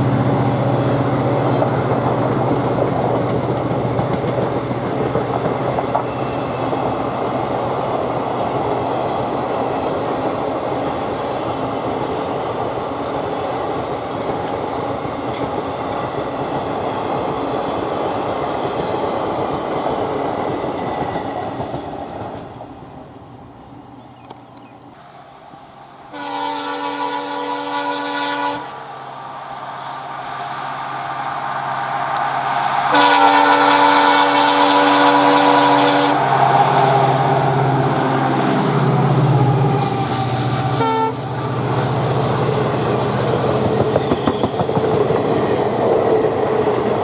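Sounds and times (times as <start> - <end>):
train wheels rumbling and clattering: 0.0 - 25.6, 31.9 - 47.0.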